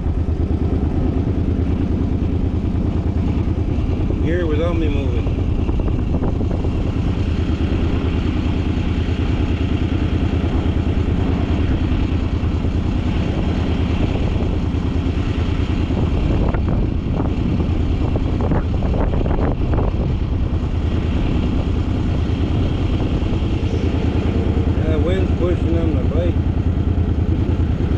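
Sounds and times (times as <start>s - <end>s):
road noise: 0.0s - 27.9s
vehicle engine running: 0.0s - 27.9s.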